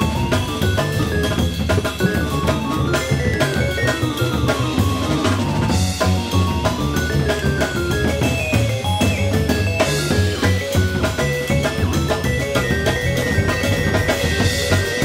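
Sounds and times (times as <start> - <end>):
bass line: 0.0 - 15.0
jazz-rock band playing: 0.0 - 15.0
synthesizer keyboard: 0.0 - 15.0.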